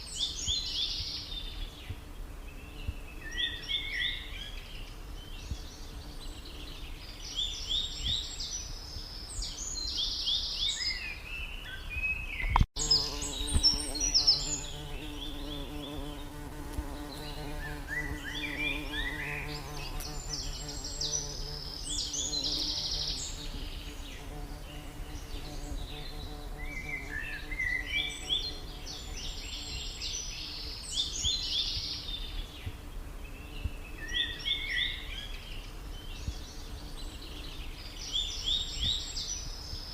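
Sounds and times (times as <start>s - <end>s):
small songbird singing: 0.0s - 39.9s.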